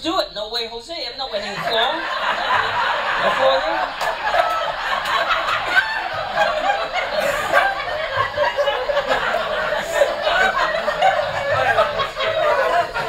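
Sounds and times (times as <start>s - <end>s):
audience laughing: 1.4s - 13.0s.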